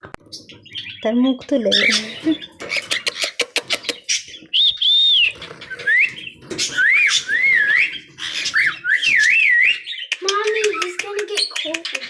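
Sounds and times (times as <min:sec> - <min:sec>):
cockatiel calling: 0:01.7 - 0:12.0.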